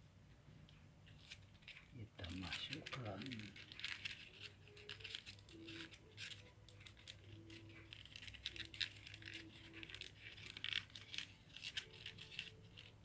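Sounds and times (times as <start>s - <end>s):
paperboard crinkling and clicking: 0.5s - 13.0s.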